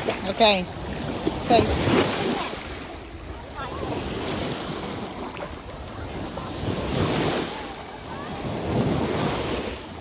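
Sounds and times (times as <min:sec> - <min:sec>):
waves washing onto sandy shore: 0:00.0 - 0:10.0
wind buffeting microphone: 0:00.0 - 0:10.0.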